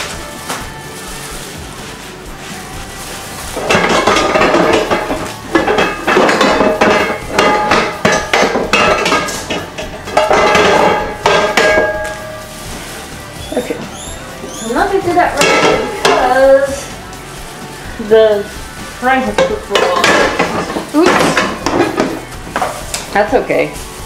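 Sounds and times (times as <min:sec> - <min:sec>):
metal pans and utensils clanking: 0:00.0 - 0:24.0.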